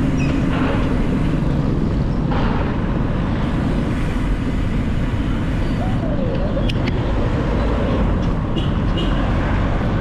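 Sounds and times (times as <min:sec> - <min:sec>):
engine hum: 0:00.0 - 0:10.0
low rumble of street traffic: 0:00.0 - 0:10.0
vehicles passing with a hiss: 0:00.0 - 0:10.0.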